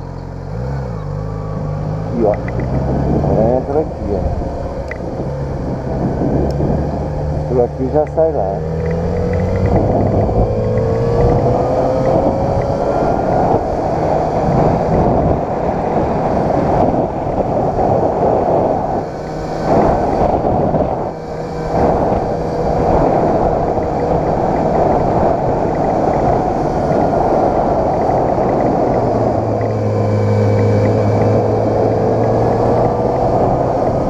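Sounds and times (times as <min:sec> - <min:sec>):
motorcycle engine accelerating: 0:00.0 - 0:34.0
wind rushing over microphone: 0:00.0 - 0:34.0.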